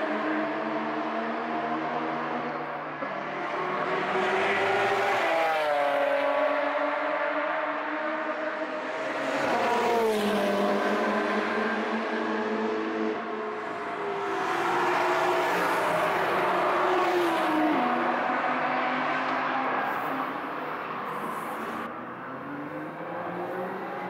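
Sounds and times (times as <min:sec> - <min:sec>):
cars driving past at speed: 0:00.0 - 0:24.0.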